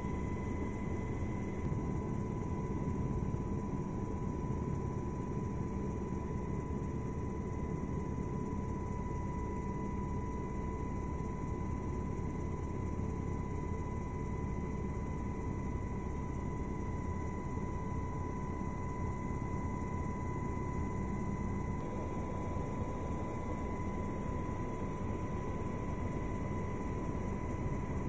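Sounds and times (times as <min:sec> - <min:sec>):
helicopter rotor and engine: 0:00.0 - 0:28.0.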